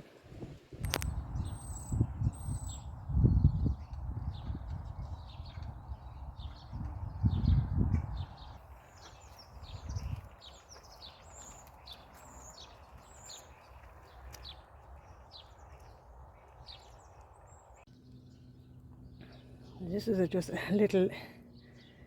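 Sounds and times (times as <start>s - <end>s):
songbirds chirping: 0.8s - 22.0s.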